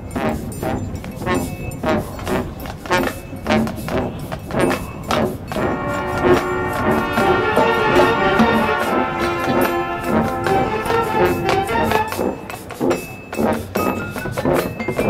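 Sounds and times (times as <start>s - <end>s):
drum-line percussion: 0.0s - 15.0s
marching band playing: 0.2s - 15.0s.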